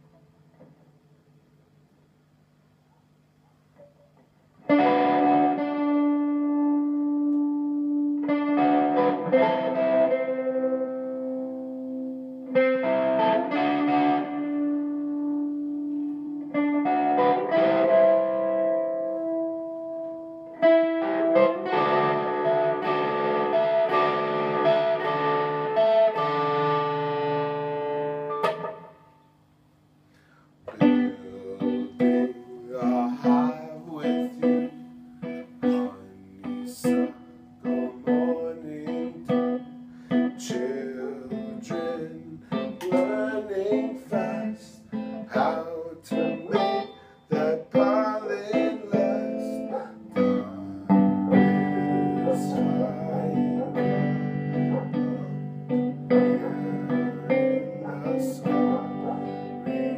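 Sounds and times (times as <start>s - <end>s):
electric guitar with effects: 3.7s - 59.9s.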